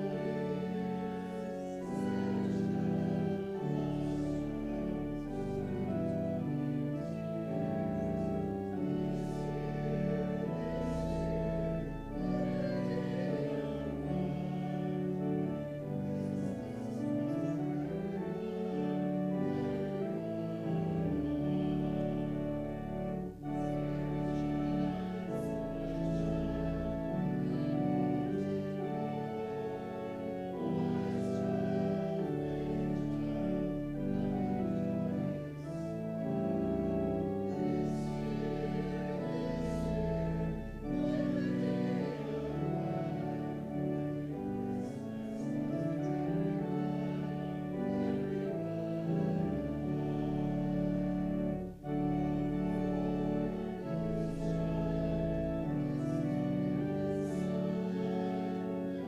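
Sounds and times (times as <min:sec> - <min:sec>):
slow instrumental hymn music: 0:00.0 - 0:59.0.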